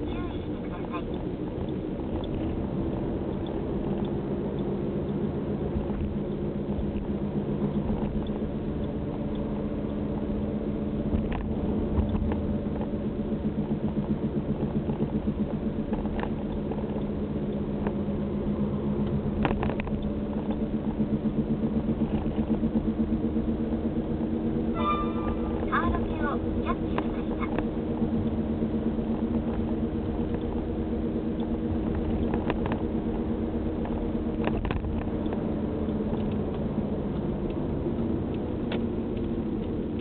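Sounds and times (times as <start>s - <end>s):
wheel bearing humming drone: 0.0s - 40.0s.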